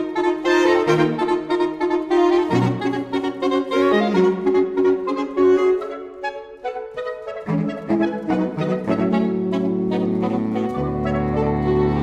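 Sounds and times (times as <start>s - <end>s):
saxophones playing held chords: 0.0s - 12.0s.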